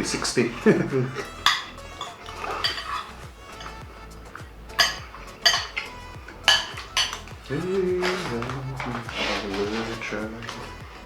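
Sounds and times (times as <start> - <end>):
cutlery clinking on dishes: 0.2 - 10.8.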